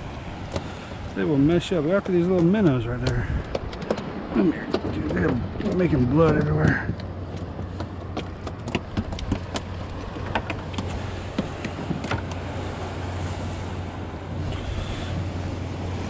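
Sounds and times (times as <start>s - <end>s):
fish flopping on boat deck: 0.1s - 16.0s.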